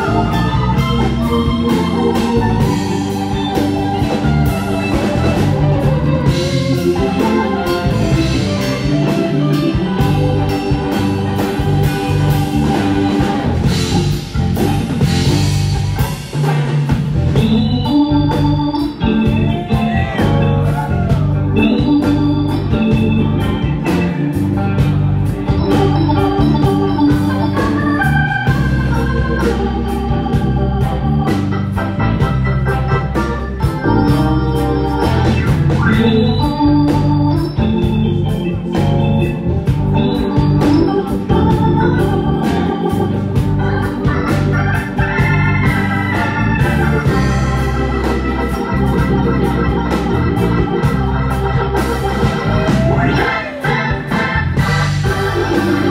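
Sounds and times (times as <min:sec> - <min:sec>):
electric bass: 0:00.0 - 0:55.9
electric guitar: 0:00.0 - 0:55.9
organ chords: 0:00.0 - 0:55.9
steady drum beat: 0:00.0 - 0:55.9.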